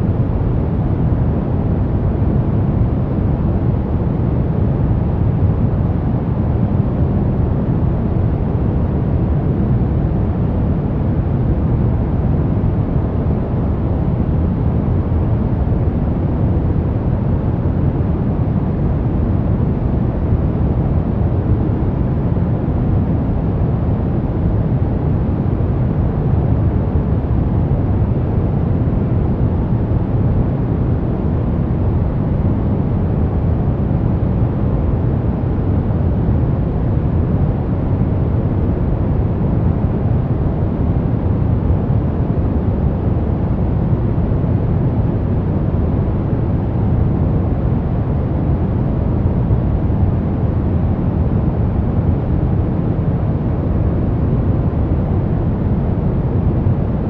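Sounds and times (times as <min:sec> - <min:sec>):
brown noise: 0:00.0 - 0:57.0.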